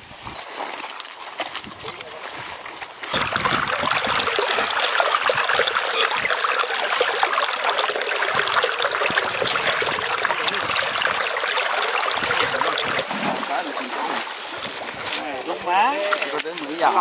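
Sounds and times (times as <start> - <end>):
creek water babbling over gravel: 0.8 - 17.0.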